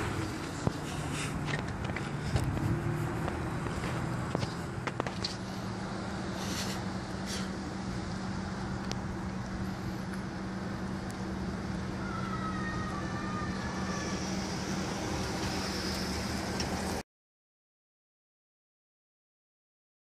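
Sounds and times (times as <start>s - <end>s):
street traffic hum: 0.0s - 17.0s.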